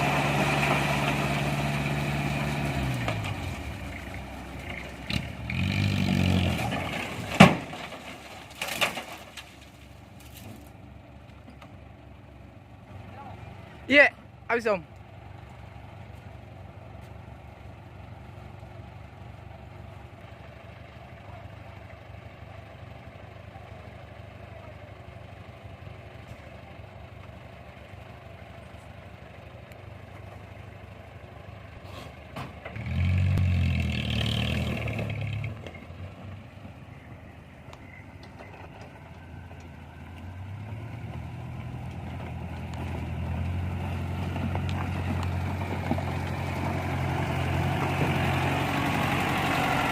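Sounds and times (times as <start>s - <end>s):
diesel engine revving: 0.0s - 8.6s, 15.0s - 49.9s.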